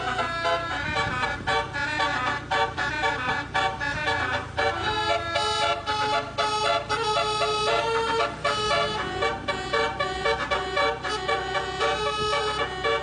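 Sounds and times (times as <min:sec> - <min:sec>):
bus engine running: 0:00.0 - 0:13.0
musical bus horn tune: 0:00.0 - 0:13.0.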